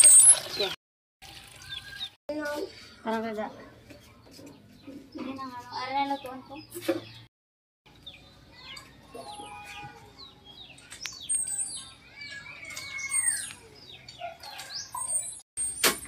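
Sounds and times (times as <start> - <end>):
small birds chirping: 1.4 - 7.3, 7.9 - 15.4.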